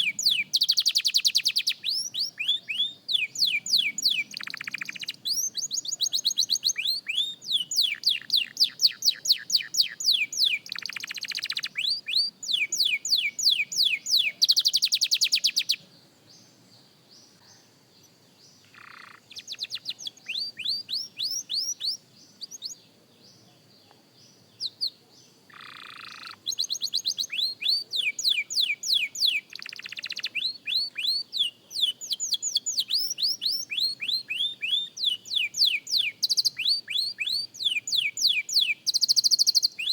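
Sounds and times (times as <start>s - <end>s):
canary trilling song: 0.0s - 15.8s, 18.6s - 22.8s, 24.6s - 39.9s.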